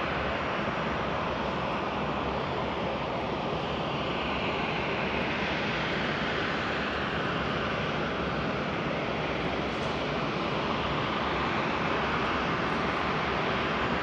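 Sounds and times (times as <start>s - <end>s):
jet engines at low power: 0.0s - 14.0s.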